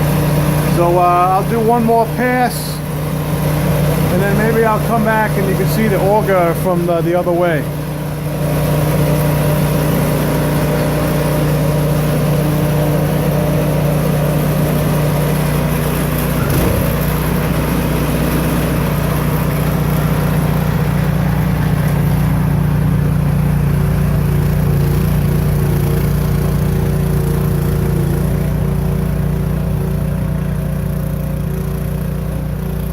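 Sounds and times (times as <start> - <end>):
snow blower engine running: 0.0 - 32.9.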